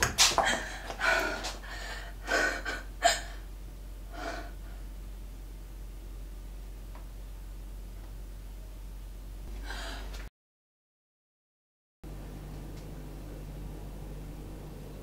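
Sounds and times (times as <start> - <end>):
steady low hum: 0.0 - 10.3, 12.0 - 15.0.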